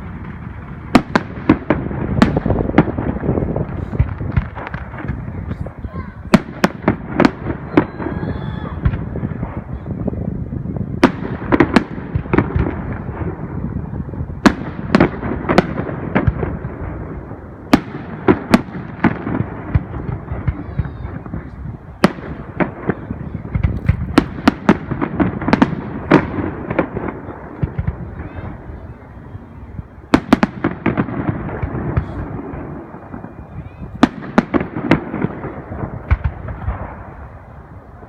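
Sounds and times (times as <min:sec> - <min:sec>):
firework bangs: 0:00.0 - 0:38.0
rumble of distant explosions: 0:00.0 - 0:38.0.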